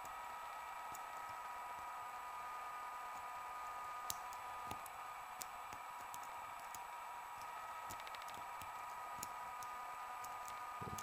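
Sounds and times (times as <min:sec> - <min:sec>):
background hiss and hum: 0:00.0 - 0:11.0.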